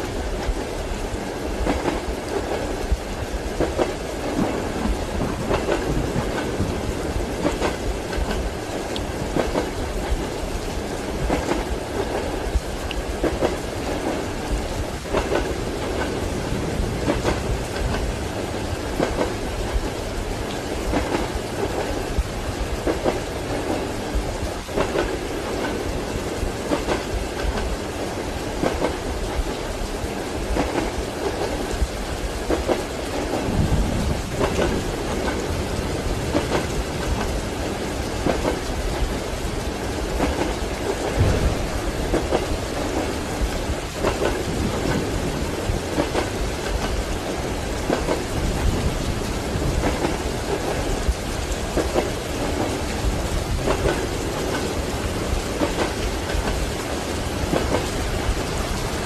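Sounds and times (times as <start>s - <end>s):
rain hissing: 0.0s - 59.0s
train wheels clacking: 1.5s - 59.0s.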